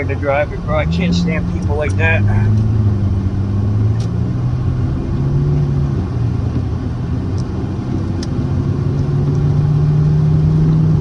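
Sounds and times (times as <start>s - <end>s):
car engine running: 0.0s - 11.0s
road and cabin rumble: 0.0s - 11.0s.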